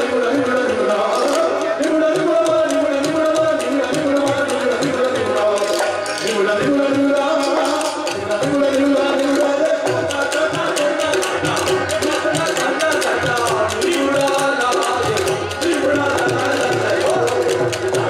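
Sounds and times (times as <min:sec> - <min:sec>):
drums beating quick rhythm: 0:00.0 - 0:18.0
man singing: 0:00.0 - 0:18.0
string instruments playing: 0:00.0 - 0:18.0.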